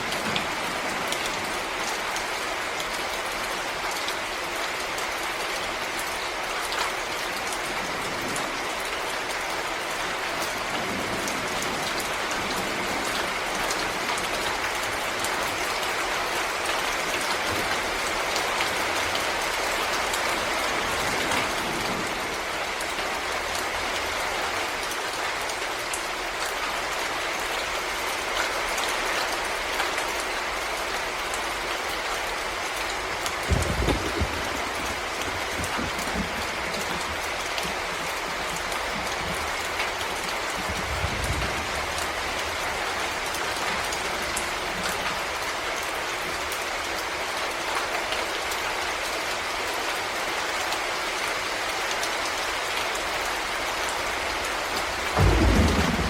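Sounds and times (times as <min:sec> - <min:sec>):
steady rain in forest: 0:00.0 - 0:56.0.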